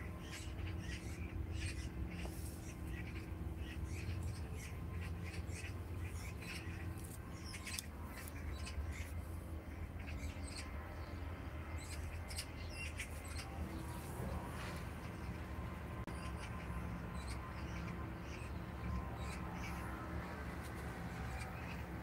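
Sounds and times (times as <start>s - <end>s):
small birds chirping: 0.0s - 15.4s, 16.0s - 22.0s
steady low hum: 0.0s - 22.0s.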